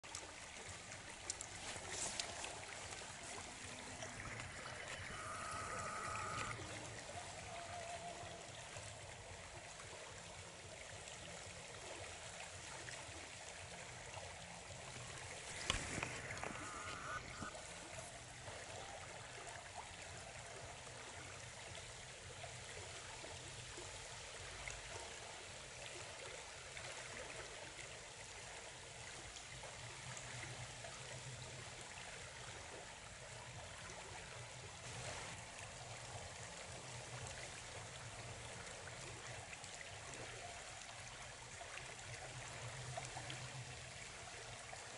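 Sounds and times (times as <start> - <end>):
river water flowing: 0.0 - 44.9.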